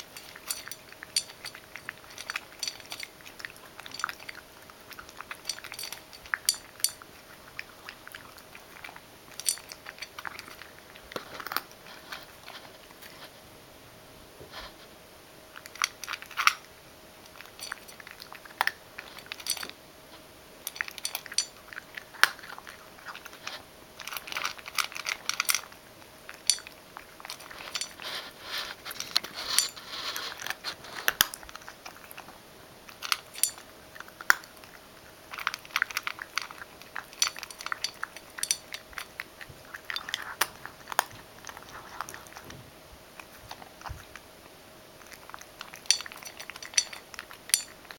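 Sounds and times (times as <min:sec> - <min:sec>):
kibble clinking on metal bowl: 0:00.0 - 0:12.6, 0:17.2 - 0:19.8, 0:20.6 - 0:32.3, 0:32.9 - 0:42.4, 0:45.0 - 0:47.9
cat crunching dry kibble: 0:00.0 - 0:13.4, 0:15.5 - 0:19.8, 0:20.6 - 0:47.9.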